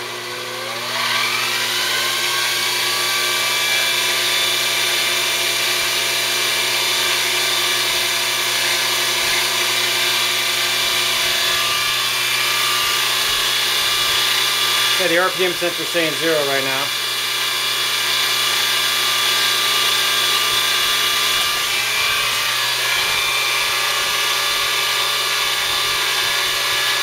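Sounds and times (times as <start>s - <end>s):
drill spindle motor whine: 0.0s - 27.0s.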